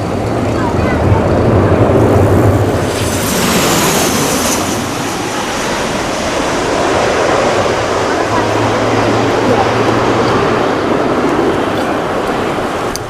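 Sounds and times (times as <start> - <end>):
jet engines passing: 0.0 - 13.0
steady rushing noise: 0.0 - 13.0.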